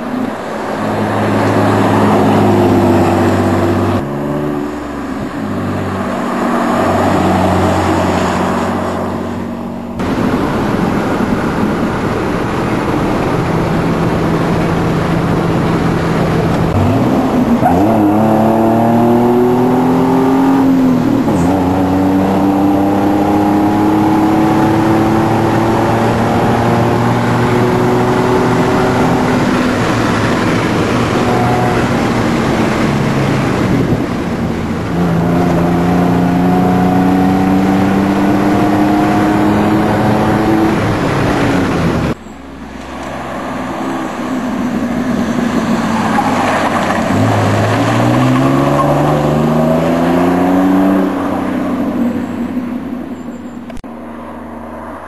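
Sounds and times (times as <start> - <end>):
truck engine under load: 0.0 - 55.0.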